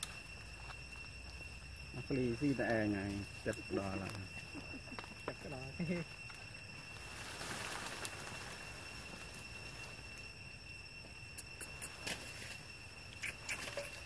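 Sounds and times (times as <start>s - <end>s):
leaves rustling: 0.0s - 11.0s, 11.7s - 14.0s
high insect drone: 0.0s - 14.0s.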